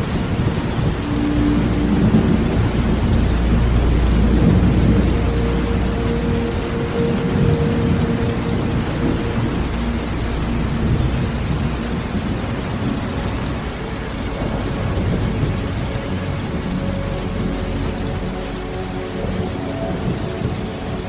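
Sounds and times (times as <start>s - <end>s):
low rumble of thunder: 0.0s - 21.0s
steady rain: 0.0s - 21.0s.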